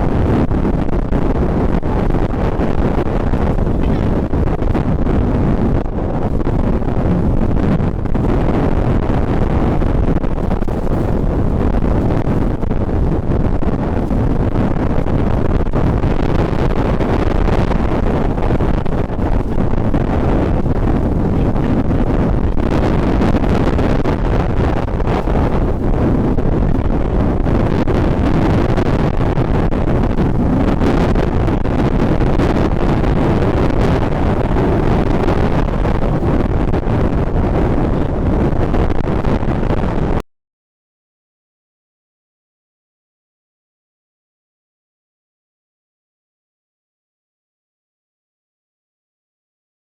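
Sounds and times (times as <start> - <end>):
wind buffeting microphone: 0.0 - 40.2.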